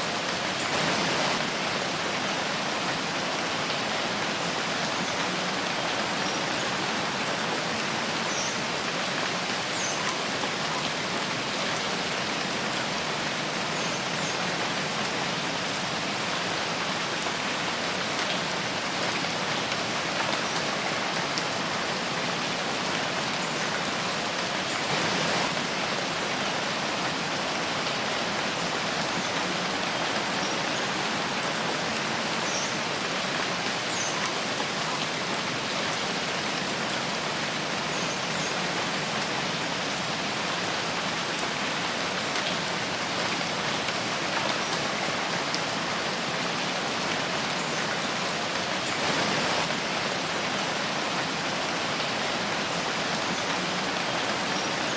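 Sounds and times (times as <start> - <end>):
steady rain in a forest: 0.0 - 54.9.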